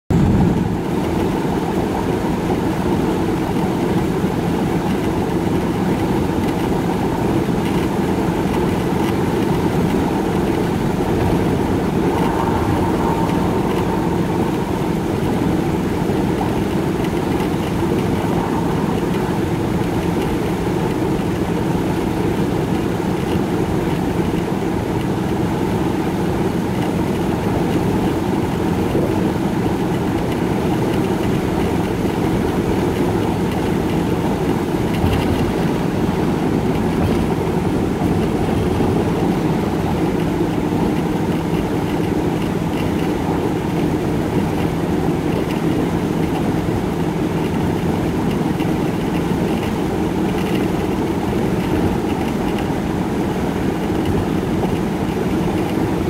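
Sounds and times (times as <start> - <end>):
car interior highway drone: 0.1 - 56.0.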